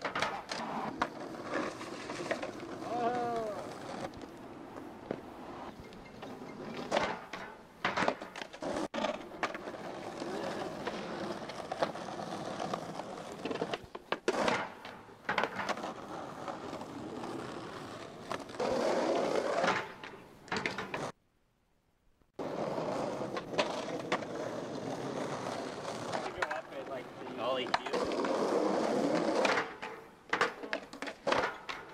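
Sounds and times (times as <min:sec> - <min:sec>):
skateboard clacking on ground: 0:00.0 - 0:21.2, 0:22.4 - 0:31.9
skateboard wheels rolling on pavement: 0:00.0 - 0:21.2, 0:22.3 - 0:31.9.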